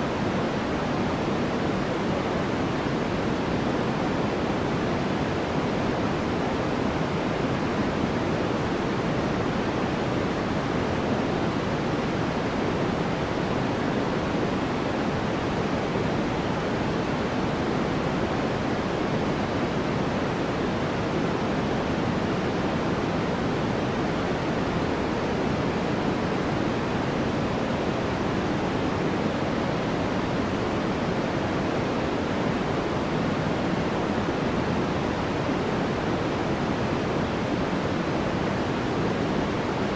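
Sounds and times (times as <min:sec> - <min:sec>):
low soft white noise: 0:00.0 - 0:39.9.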